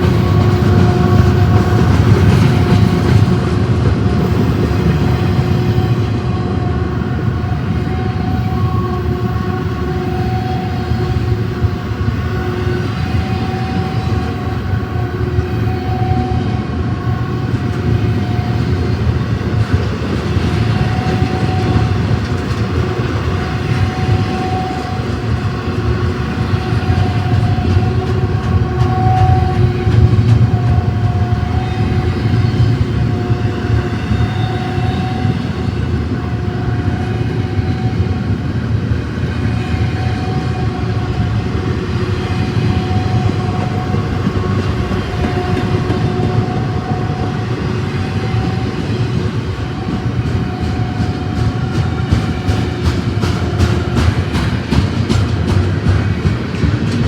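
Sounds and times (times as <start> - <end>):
freight train rumbling on rails: 0.0 - 57.0.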